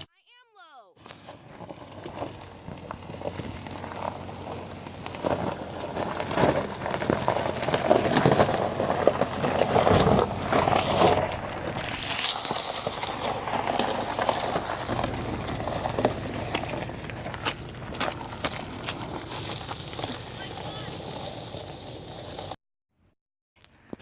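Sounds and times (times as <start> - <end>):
tyres crunching on rocks and gravel: 1.0 - 22.5
car engine running: 1.0 - 22.6.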